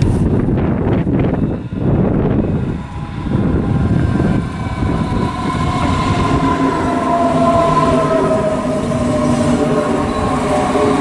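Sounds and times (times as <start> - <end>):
wheels rumbling on rails: 0.0 - 11.0.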